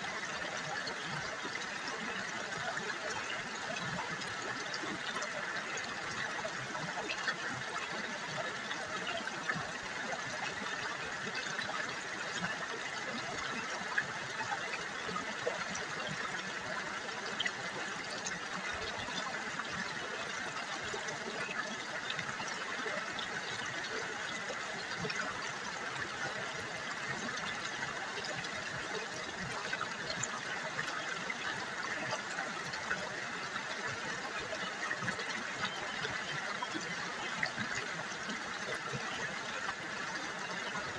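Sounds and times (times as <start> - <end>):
river water gurgling: 0.0 - 40.9.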